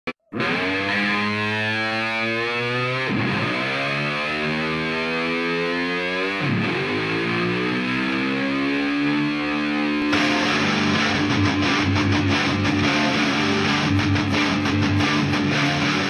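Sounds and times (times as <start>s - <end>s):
distorted electric guitar dives: 0.2s - 16.0s.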